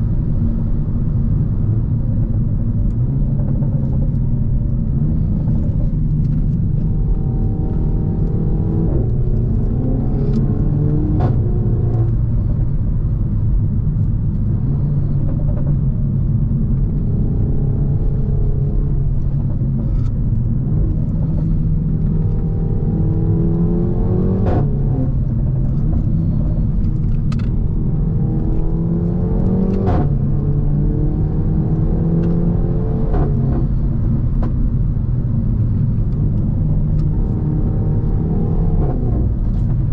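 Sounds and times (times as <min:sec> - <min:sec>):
car engine revving: 0:02.3 - 0:39.9.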